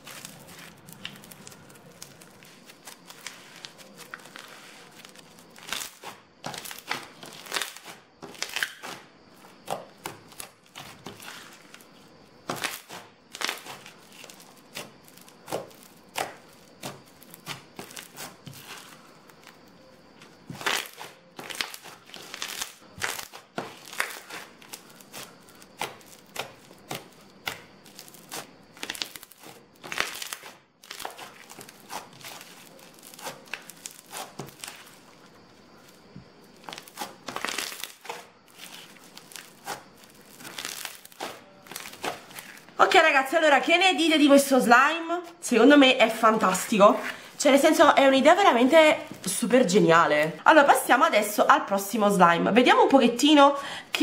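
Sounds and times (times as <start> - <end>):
crunchy slime crackling: 0.0 - 43.4.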